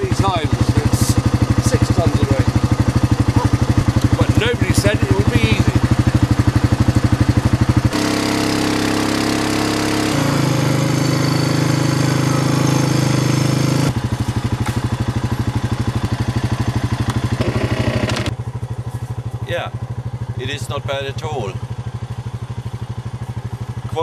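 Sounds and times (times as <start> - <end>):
quad bike engine revving: 0.0 - 18.4, 19.4 - 24.0.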